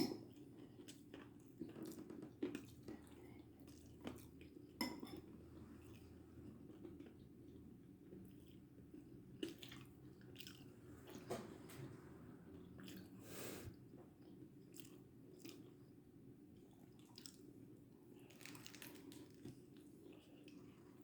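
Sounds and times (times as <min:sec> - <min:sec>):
chewing and crunching food: 0:00.0 - 0:13.2, 0:13.8 - 0:21.0.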